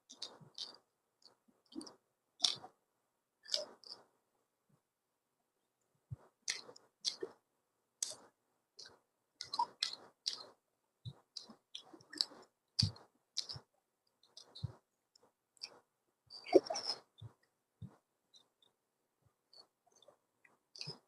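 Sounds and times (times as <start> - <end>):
person chewing with clicks and smacks: 0.1 - 2.8, 3.4 - 4.1, 6.1 - 7.4, 8.0 - 18.8, 19.4 - 21.0.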